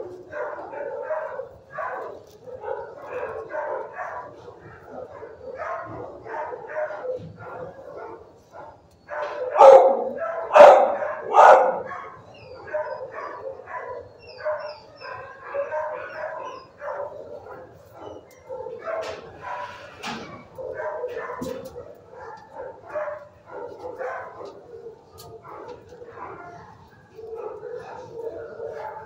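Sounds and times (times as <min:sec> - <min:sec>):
dogs barking: 0:00.0 - 0:29.0.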